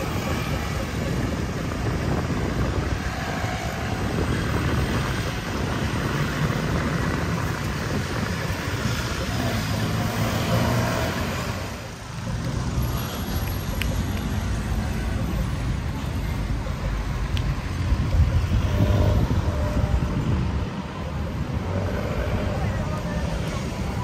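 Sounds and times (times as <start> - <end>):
vehicle engines running: 0.0 - 24.0.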